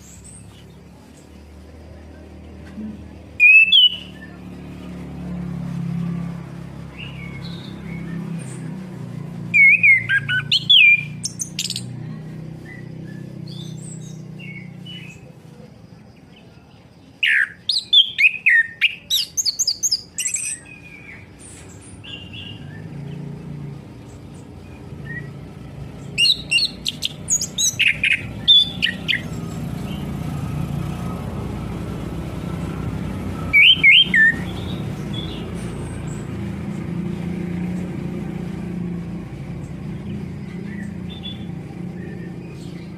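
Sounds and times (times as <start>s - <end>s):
thrush singing whistled notes: 3.1s - 15.3s, 17.1s - 42.9s.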